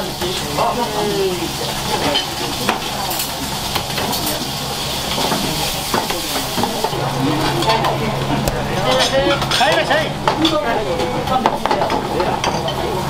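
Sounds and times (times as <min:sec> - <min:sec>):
food sizzling in a frying pan: 0:00.0 - 0:13.0
metal utensils clinking on pans: 0:00.1 - 0:08.0, 0:08.7 - 0:13.0.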